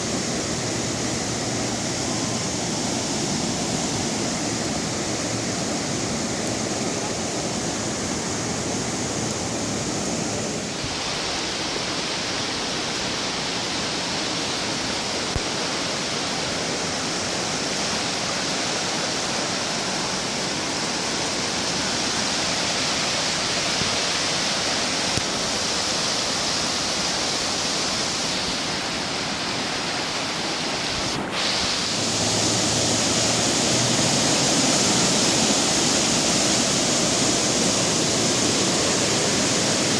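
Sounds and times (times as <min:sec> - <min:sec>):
rushing flood water: 0:00.0 - 0:39.9.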